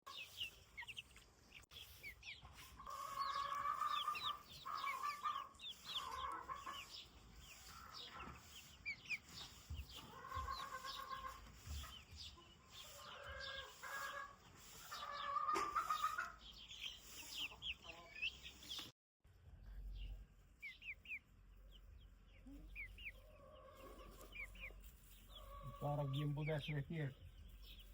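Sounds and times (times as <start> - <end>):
chicks peeping: 0.0 - 18.9, 19.5 - 27.9
hens clucking: 0.1 - 18.9, 20.6 - 27.9.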